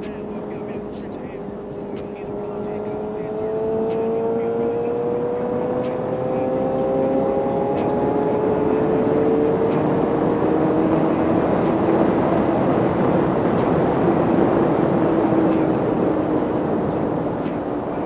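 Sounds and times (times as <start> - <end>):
motorcycle engine hum: 0.0 - 18.0.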